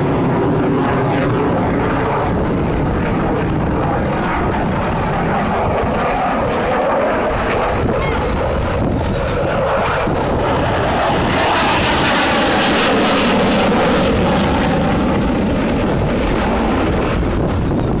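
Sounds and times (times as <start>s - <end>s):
fighter jet flying past: 0.0s - 18.0s.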